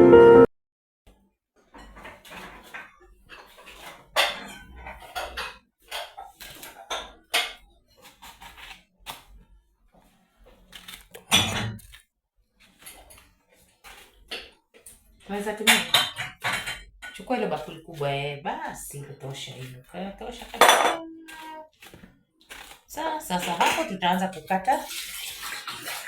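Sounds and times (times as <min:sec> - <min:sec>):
utensils and dishes clinking: 0:01.7 - 0:08.6, 0:11.2 - 0:11.9, 0:12.7 - 0:26.0.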